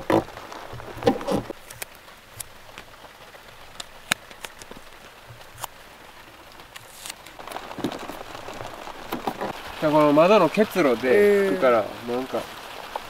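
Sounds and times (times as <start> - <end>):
rain on van roof: 0.0 - 13.0.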